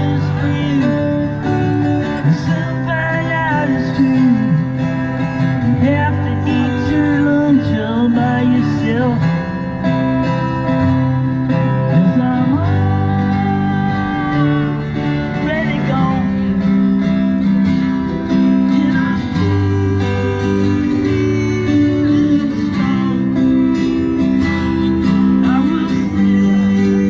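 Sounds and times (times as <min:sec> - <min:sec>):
person singing: 0:00.0 - 0:09.7, 0:11.5 - 0:16.6, 0:18.4 - 0:27.0
acoustic guitar strumming: 0:00.0 - 0:27.0.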